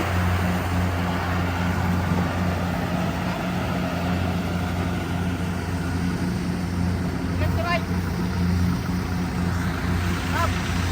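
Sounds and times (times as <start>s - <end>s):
harvester engine running: 0.0s - 10.9s.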